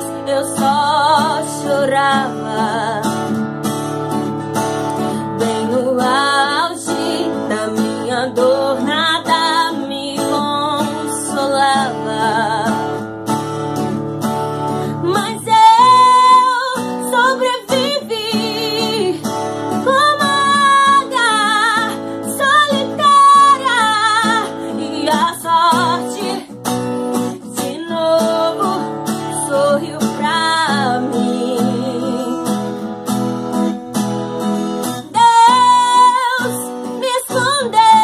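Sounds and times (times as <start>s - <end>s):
woman singing gospel song: 0.0s - 3.2s, 5.3s - 13.0s, 15.0s - 26.6s, 27.4s - 32.7s, 35.1s - 38.0s
acoustic guitar: 0.0s - 38.0s.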